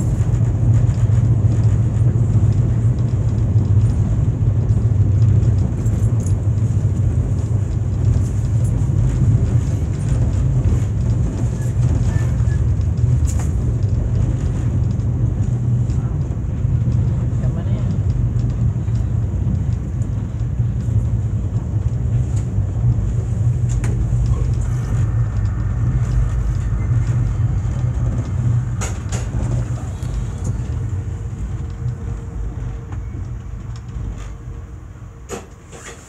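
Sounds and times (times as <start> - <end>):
train rumble inside coach: 0.0 - 36.0.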